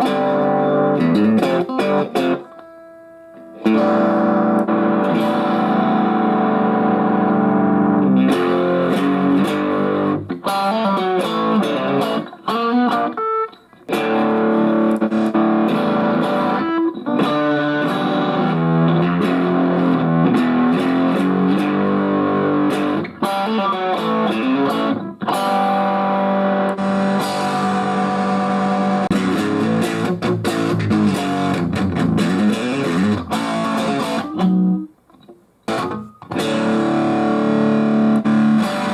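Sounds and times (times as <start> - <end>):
electric guitar chords ringing: 0.0 - 35.0, 35.7 - 38.9.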